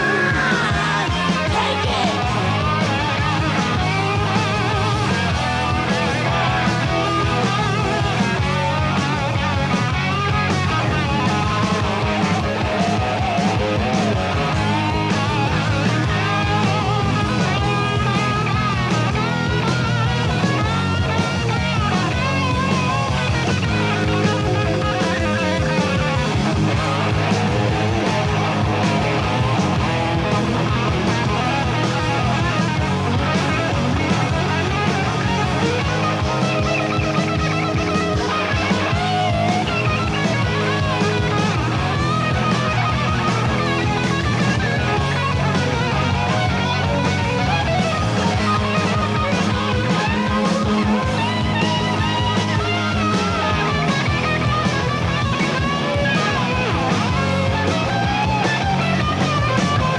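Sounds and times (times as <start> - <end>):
bass guitar: 0.0 - 59.9
distorted electric guitar: 0.0 - 59.9
driving drum beat: 0.0 - 59.9.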